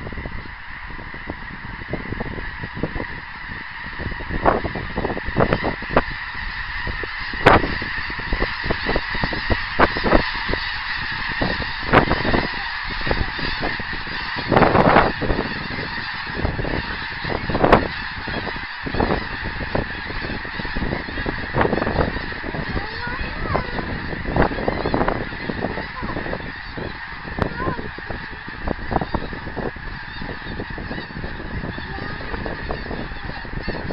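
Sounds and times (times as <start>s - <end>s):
geese honking in flight: 0.0s - 33.9s.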